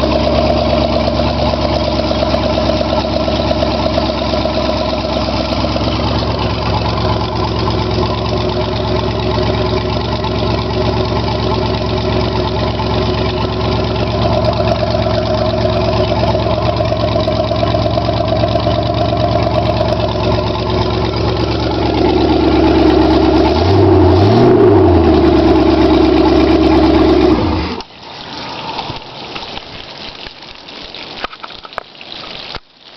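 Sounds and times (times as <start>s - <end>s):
engine revving: 0.0s - 27.8s
boat engine idling: 0.0s - 27.9s.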